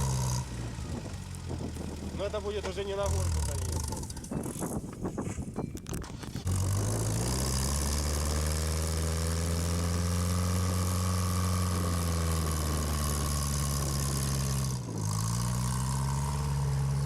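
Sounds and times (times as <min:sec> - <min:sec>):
vehicle engine running: 0:00.0 - 0:05.2, 0:05.8 - 0:17.0.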